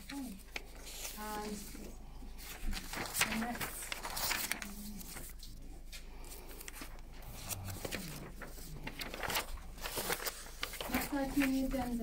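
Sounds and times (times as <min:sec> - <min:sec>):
faint rustles: 0:00.0 - 0:12.0.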